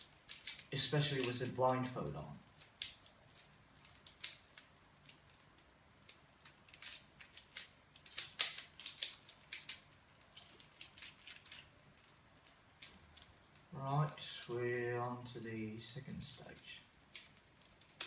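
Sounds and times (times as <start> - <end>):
plastic puzzle cube clicking: 0.0 - 13.7, 16.6 - 18.0.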